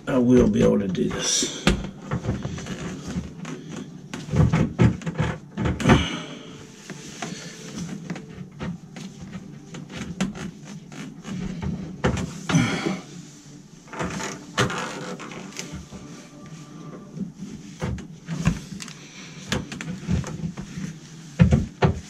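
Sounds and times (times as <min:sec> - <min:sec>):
plastic hose rustling and creaking: 0:00.0 - 0:22.0.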